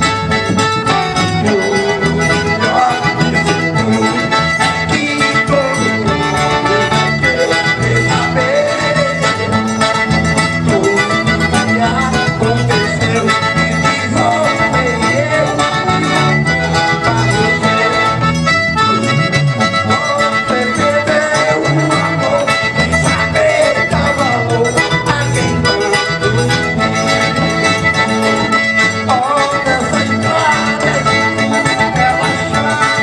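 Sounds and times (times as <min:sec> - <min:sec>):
accordion melody: 0:00.0 - 0:33.0
electric bass: 0:00.0 - 0:33.0.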